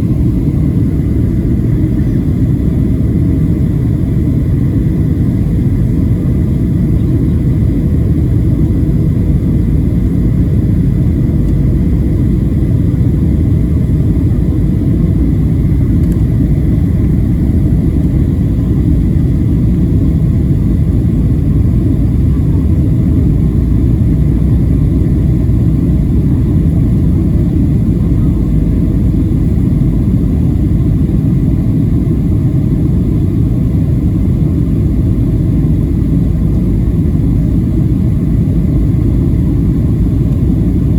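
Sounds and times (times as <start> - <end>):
airplane cabin roar: 0.0 - 40.9
faint steady whining tones: 0.0 - 40.9.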